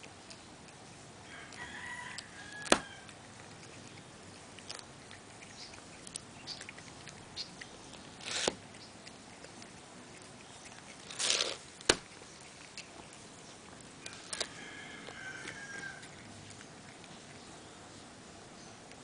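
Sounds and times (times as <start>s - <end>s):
cat chewing grass: 0.0s - 19.0s.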